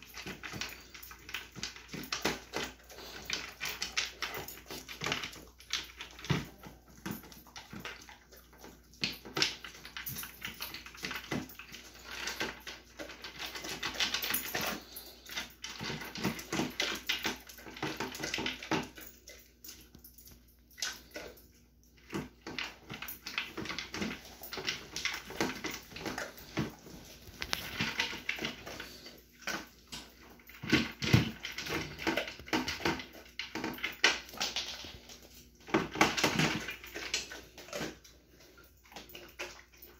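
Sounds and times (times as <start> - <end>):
dog food clattering in bowl: 0.0 - 39.9.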